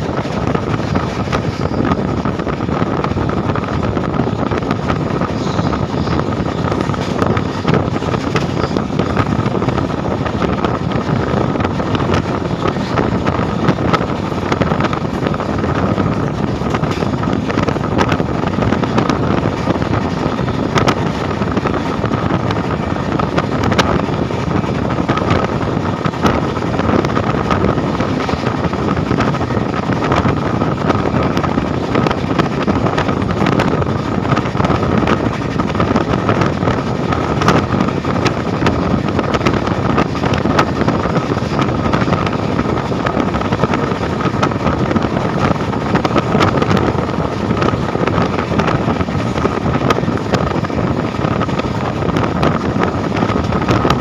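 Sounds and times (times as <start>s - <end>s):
train wheel and rail rush: 0.0s - 54.0s
wind on microphone: 0.0s - 54.0s.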